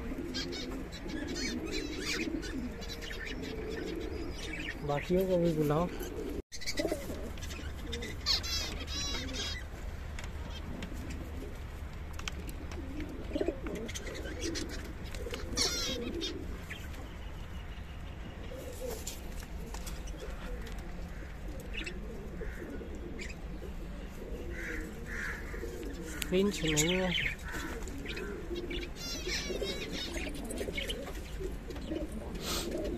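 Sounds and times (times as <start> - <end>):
pigeons cooing: 0.0 - 17.6, 18.2 - 32.9
small birds chirping: 0.2 - 9.8, 13.0 - 32.9.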